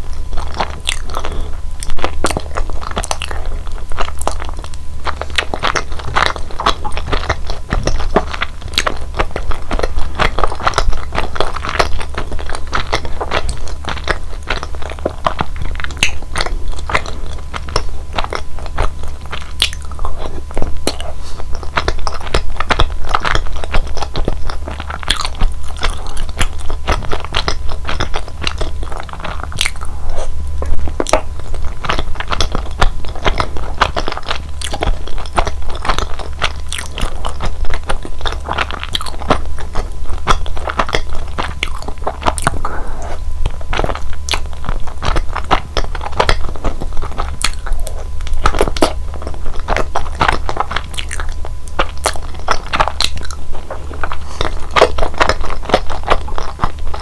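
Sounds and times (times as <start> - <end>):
close chewing of sticky dumplings: 0.0 - 57.0
mouth clicks: 9.8 - 57.0.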